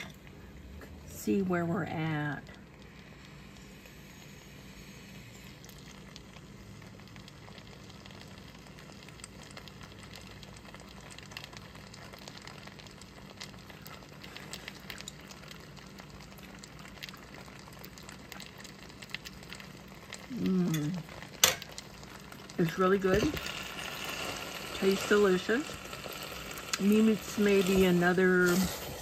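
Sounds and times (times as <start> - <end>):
steady low hum: 0.0 - 29.0
sauce simmering and popping: 2.3 - 29.0.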